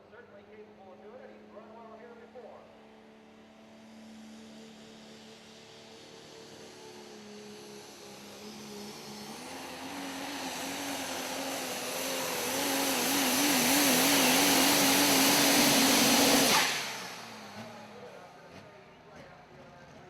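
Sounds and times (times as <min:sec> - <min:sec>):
diesel truck engine at full throttle: 0:02.8 - 0:20.0.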